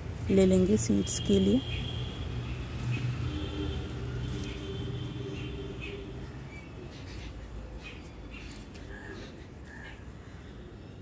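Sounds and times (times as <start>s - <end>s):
vehicle engine hum: 0.0s - 8.9s.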